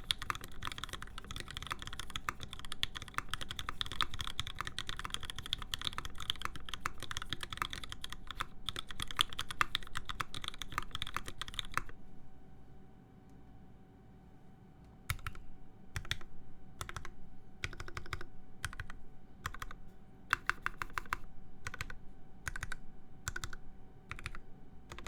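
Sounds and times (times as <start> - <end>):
fast typing on mechanical keyboard: 0.0 - 12.0, 15.1 - 15.4, 16.0 - 25.0.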